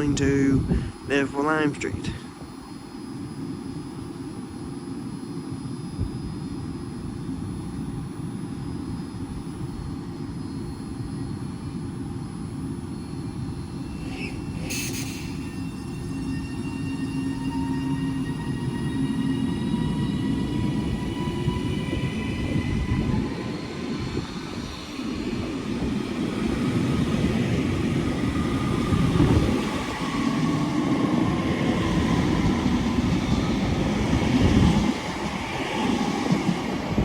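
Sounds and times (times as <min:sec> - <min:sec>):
train wheels rumbling on rail: 0:05.6 - 0:37.0.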